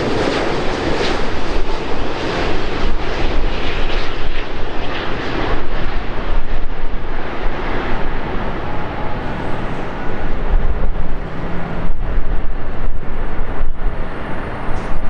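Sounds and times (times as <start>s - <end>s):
jet engines rushing overhead: 0.0s - 15.0s.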